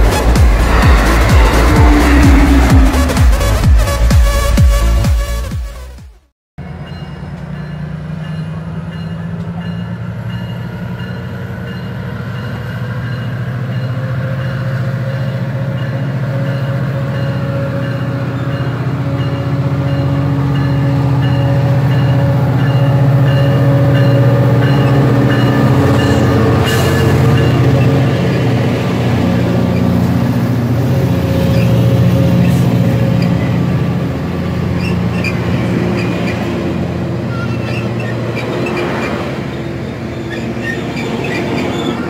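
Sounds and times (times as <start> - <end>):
diesel locomotive engine hum: 0.0 - 5.4, 6.6 - 42.0.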